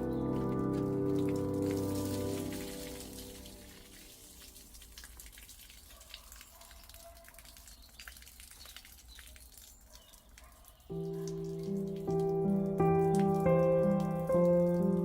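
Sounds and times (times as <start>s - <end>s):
faint rain dripping: 0.0s - 15.0s.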